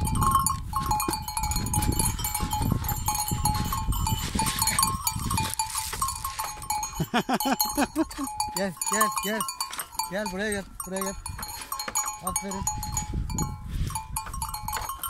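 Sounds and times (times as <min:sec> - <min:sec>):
wind rumbling on microphone: 0:00.0 - 0:07.1, 0:09.5 - 0:15.0
goat bells clanking: 0:00.0 - 0:15.0.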